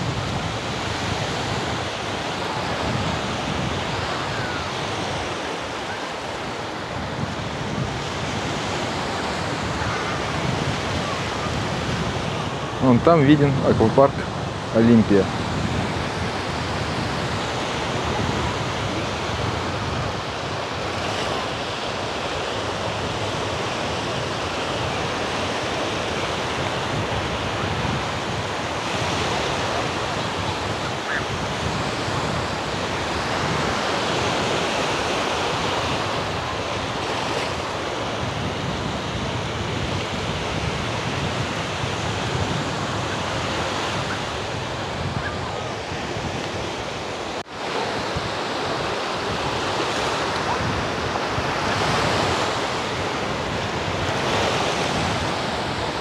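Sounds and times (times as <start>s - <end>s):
surf washing onto beach: 0.0s - 56.0s
wind buffeting microphone: 0.0s - 56.0s.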